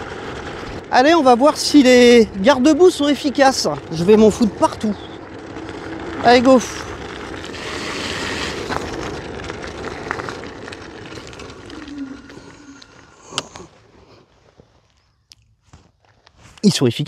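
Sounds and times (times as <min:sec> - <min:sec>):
falling whine: 0:00.0 - 0:14.0.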